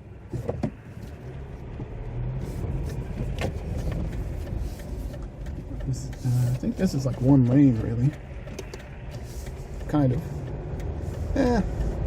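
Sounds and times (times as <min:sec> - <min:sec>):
tyre and road rumble: 0:00.0 - 0:12.0.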